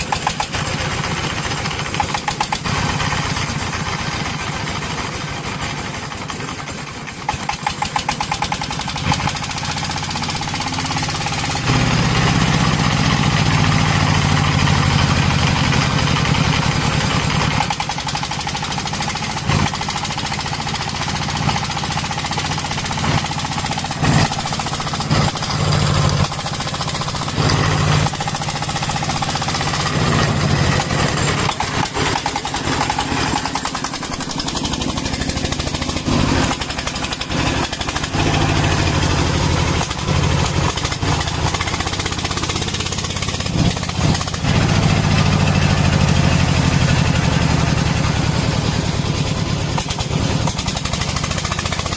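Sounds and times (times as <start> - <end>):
tractor diesel engine chugging: 0.0 - 51.9.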